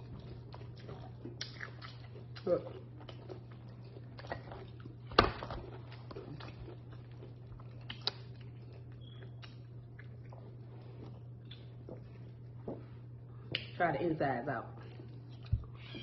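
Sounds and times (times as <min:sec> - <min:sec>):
chewing: 0:00.0 - 0:13.7, 0:14.8 - 0:16.0
steady low hum: 0:00.0 - 0:16.0.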